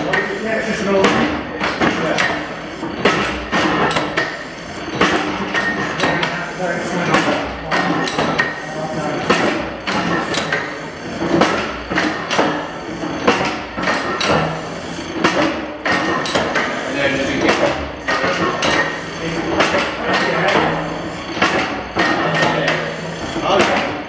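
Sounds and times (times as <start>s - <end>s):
gas engine knocking: 0.9s - 24.0s.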